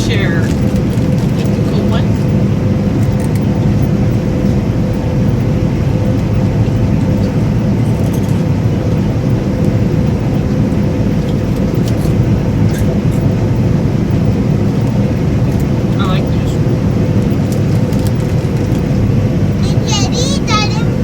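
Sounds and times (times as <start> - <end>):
combine harvester droning: 0.0 - 21.0.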